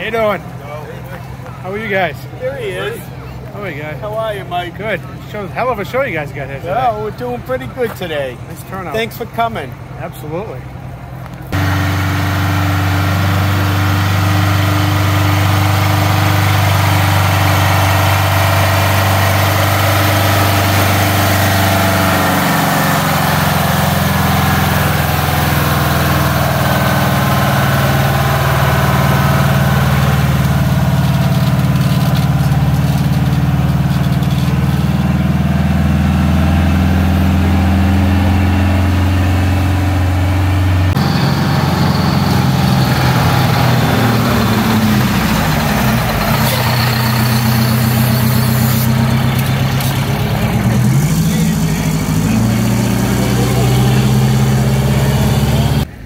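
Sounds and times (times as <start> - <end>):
truck diesel engines running: 0.0 - 56.0.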